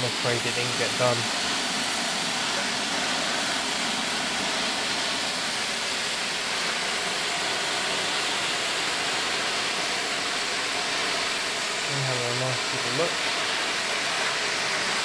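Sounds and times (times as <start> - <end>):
steam hissing from locomotive: 0.0 - 15.0.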